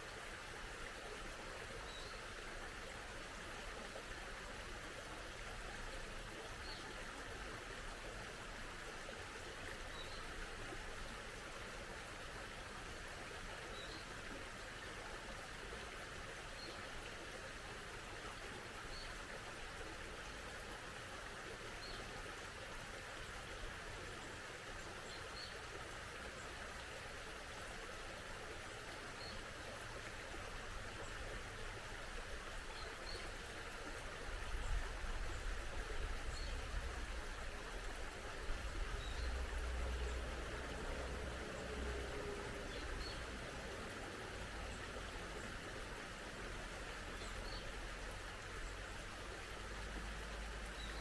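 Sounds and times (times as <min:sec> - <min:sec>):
mountain stream flowing: 0:00.0 - 0:51.0.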